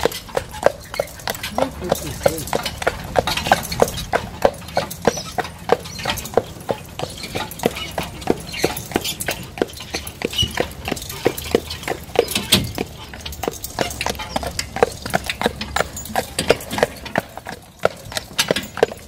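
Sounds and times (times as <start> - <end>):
horse hooves clip-clopping on pavement: 0.0 - 19.0.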